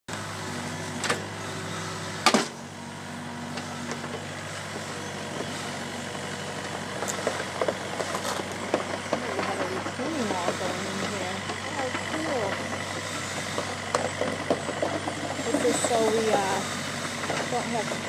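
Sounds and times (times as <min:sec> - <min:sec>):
excavator engine running: 0:00.1 - 0:18.0.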